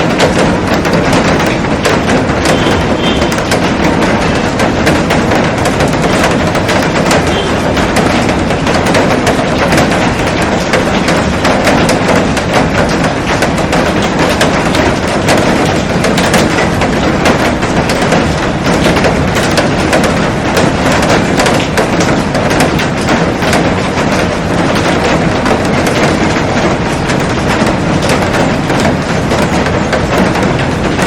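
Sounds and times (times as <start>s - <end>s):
heavy rain on glass roof: 0.0s - 31.0s.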